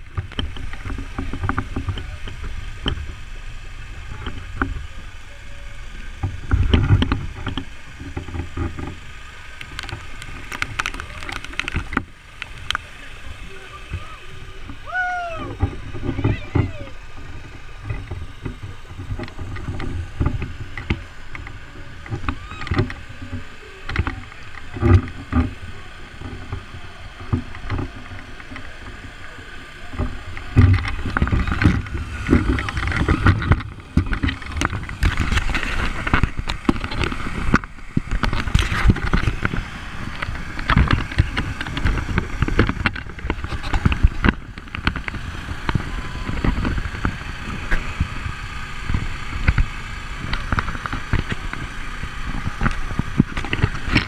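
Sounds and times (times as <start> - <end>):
sliding down wet slide: 0.0 - 54.0
wind rumbling on microphone: 0.0 - 54.0.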